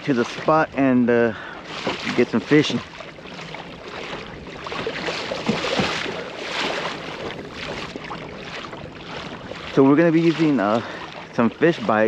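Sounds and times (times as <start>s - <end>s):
water splashing against hull: 0.0s - 12.0s
wind on microphone: 0.0s - 12.0s.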